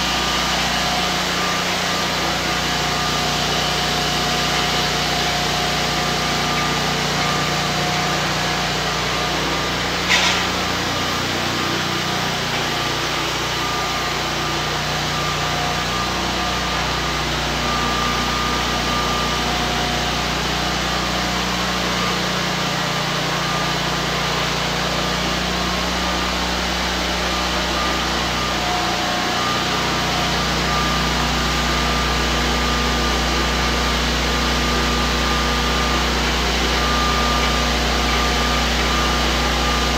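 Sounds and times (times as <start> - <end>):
concrete floor grinder: 0.0 - 39.9
dust extractor running: 0.0 - 39.9.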